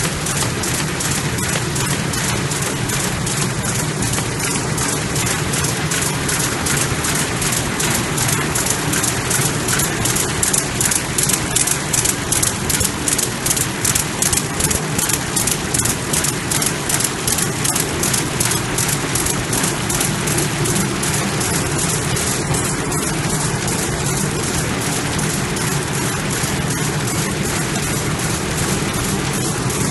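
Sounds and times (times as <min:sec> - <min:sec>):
machine clattering: 0:00.0 - 0:29.9.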